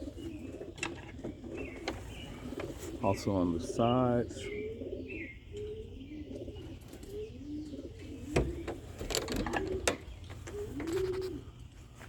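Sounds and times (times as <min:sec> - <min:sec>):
pigeons cooing: 0:00.0 - 0:11.7.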